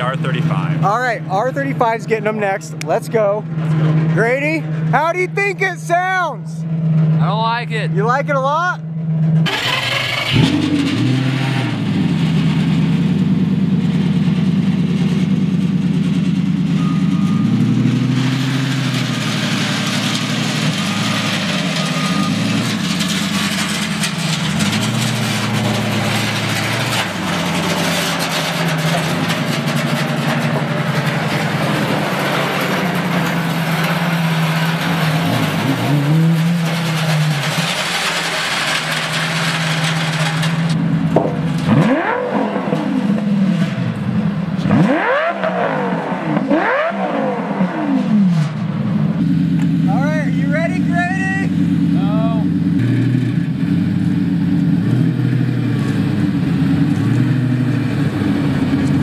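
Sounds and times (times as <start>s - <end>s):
sports car engine revving: 0.0s - 8.2s, 8.8s - 59.0s.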